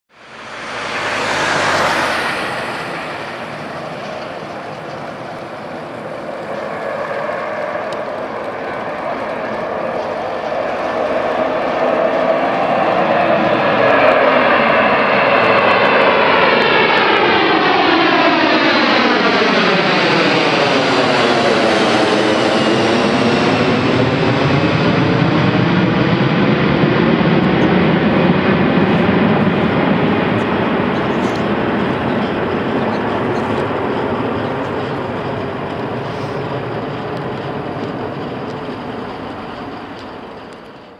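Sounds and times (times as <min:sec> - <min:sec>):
jet engine roar: 0:00.1 - 0:40.9.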